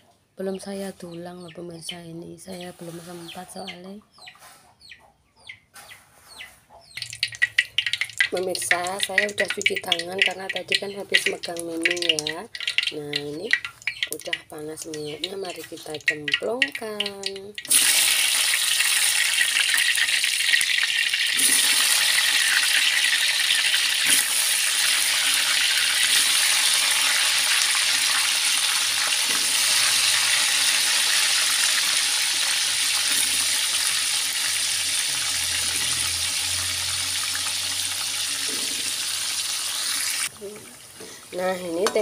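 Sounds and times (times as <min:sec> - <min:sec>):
food sizzling in hot oil: 0:07.0 - 0:42.0.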